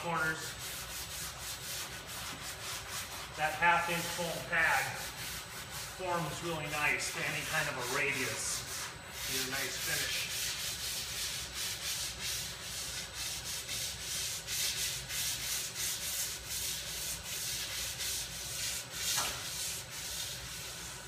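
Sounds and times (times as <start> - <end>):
hand sanding wood: 0.0 - 21.0.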